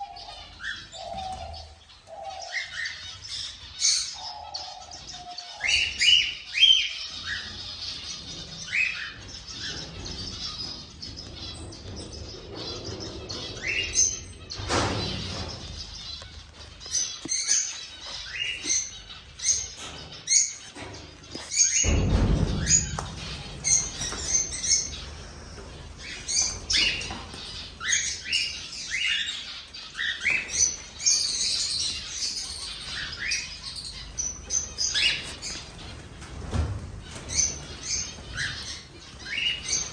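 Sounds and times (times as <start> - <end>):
cockatiels chirping: 0.0 - 39.9
rustling: 7.1 - 39.9.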